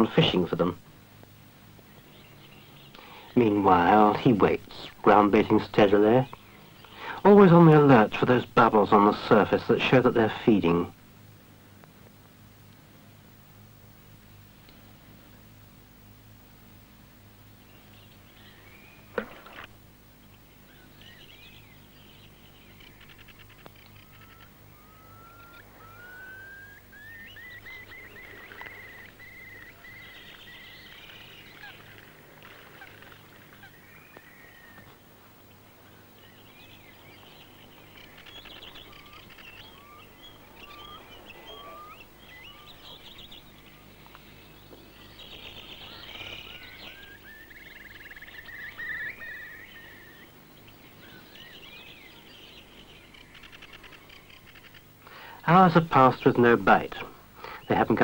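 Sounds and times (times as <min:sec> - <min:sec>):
low steady hum: 0:00.0 - 0:58.0
small birds singing: 0:00.0 - 0:58.0.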